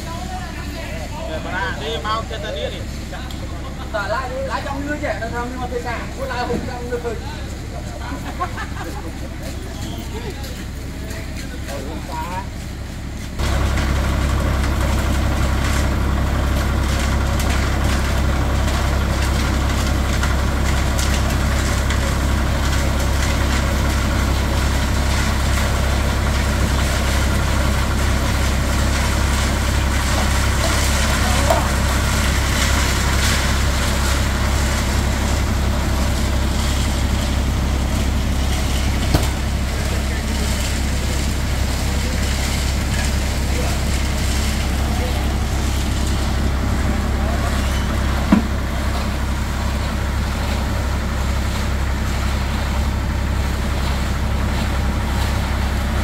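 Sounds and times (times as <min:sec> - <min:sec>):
stationary engine droning: 0:00.0 - 0:56.0.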